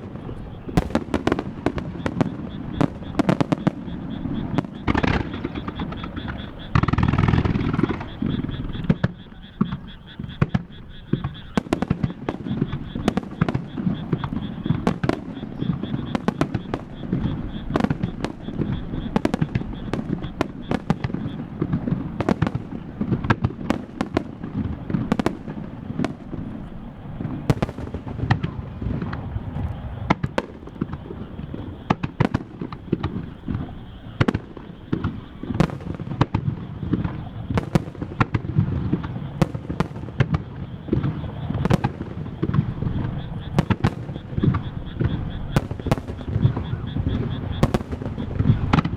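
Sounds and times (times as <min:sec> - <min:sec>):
firework bursts and cracks: 0:00.0 - 0:48.9.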